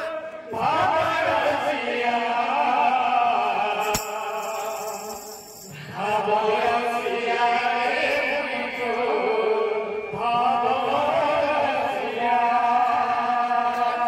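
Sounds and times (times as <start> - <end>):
women singing devotional chant: 0.0 - 14.0.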